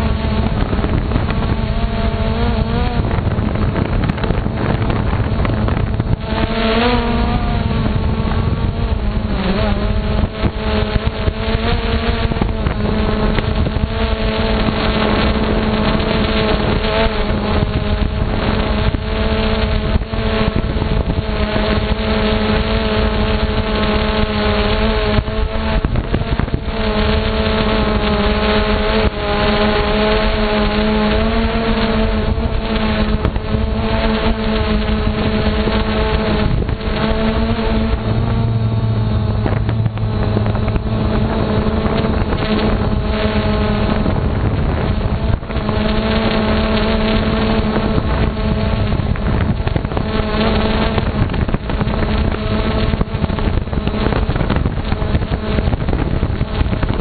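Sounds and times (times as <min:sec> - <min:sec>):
drone propellers whirring: 0:00.0 - 0:57.0
wind noise on microphone: 0:00.0 - 0:57.0.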